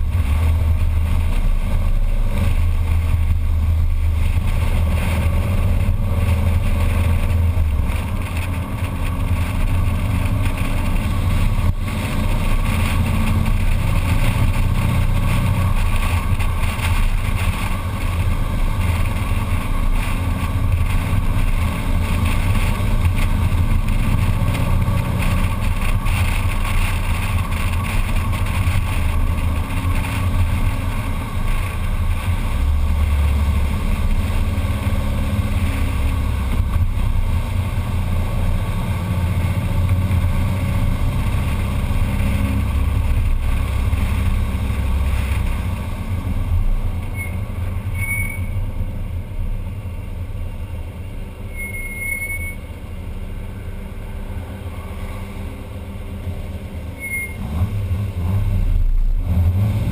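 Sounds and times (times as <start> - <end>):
brakes squealing: 0.0 - 59.9
road noise: 0.0 - 59.9.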